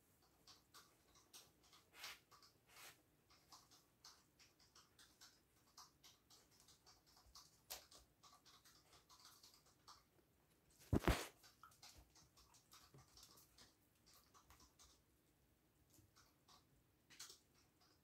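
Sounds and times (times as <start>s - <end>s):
dog eating kibble ticks and rustles: 0.0s - 18.0s.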